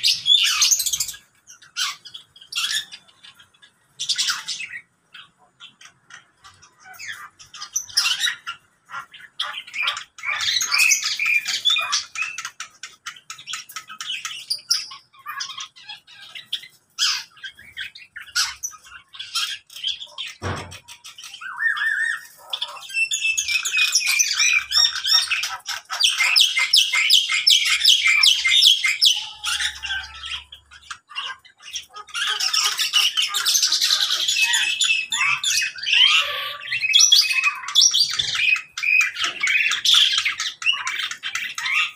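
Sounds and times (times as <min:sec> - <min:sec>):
birds chirping and squawking: 0:00.0 - 0:41.9.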